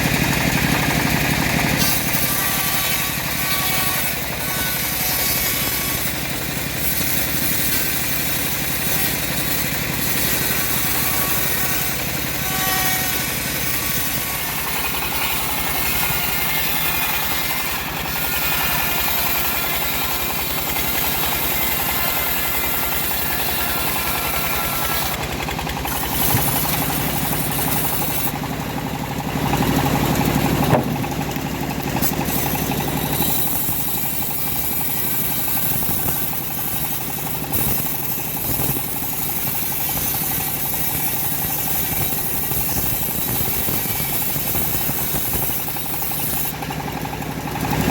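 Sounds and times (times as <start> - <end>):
bandsaw sawmill engine running: 0.0 - 47.9.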